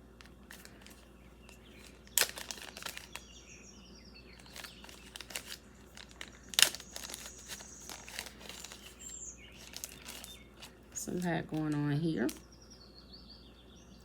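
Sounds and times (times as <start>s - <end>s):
packaging crinkling: 0.0s - 3.5s, 4.3s - 12.4s.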